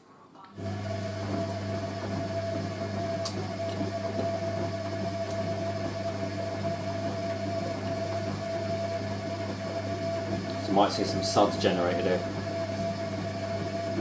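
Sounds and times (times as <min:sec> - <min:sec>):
washing machine running: 0:00.6 - 0:14.0.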